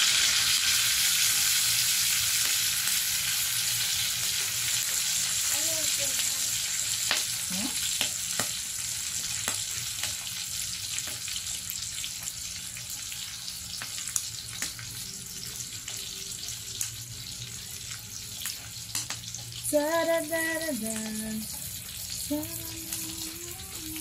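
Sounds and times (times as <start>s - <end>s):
meat sizzling in a pan: 0.0s - 24.0s.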